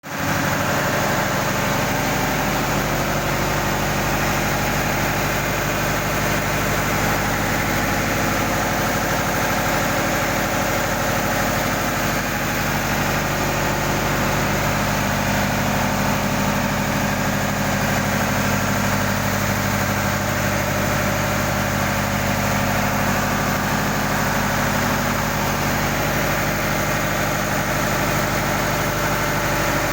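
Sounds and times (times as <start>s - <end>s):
old engine running steadily: 0.0s - 29.9s.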